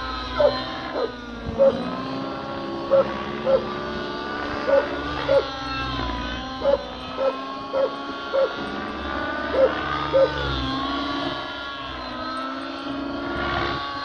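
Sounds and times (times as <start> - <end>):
model helicopter engine running: 0.0 - 14.0.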